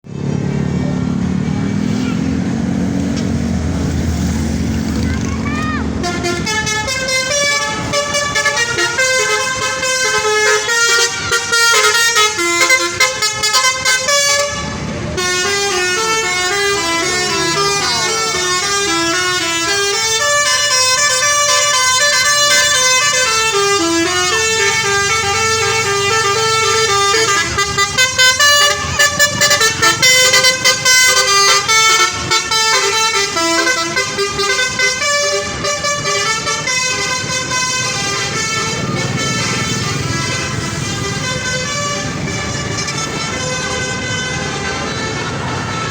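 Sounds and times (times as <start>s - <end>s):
multi-tone musical air horn: 5.6s - 45.9s.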